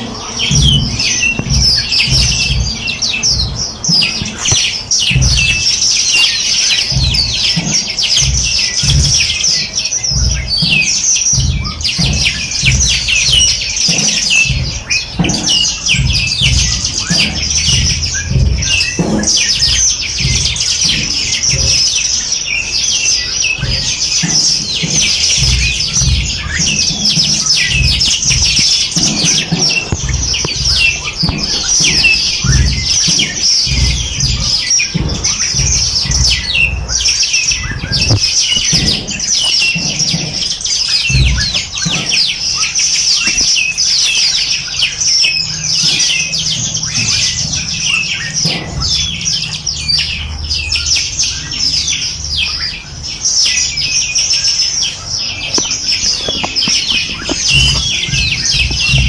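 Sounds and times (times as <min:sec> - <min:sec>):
low rumbling thumps: 0:00.0 - 0:59.0
songbirds chirping and trilling: 0:00.0 - 0:59.0.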